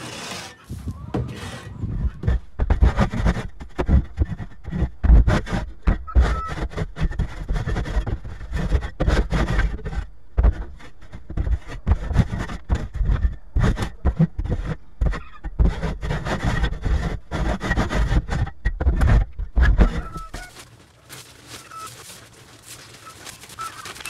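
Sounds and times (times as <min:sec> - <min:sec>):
garden tool scraping wooden floor: 0:00.0 - 0:24.0.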